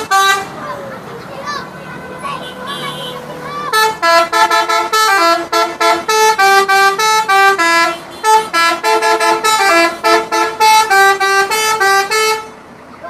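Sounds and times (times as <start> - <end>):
musical bus horn tune: 0.0 - 0.7, 1.8 - 12.6.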